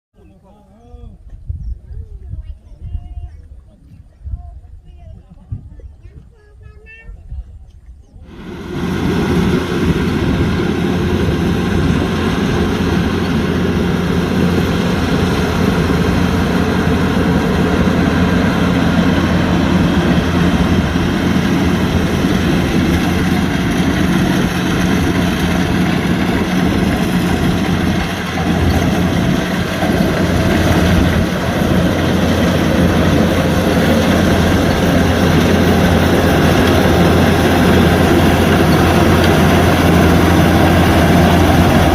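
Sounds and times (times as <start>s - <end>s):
diesel engine running under load: 8.2s - 41.9s.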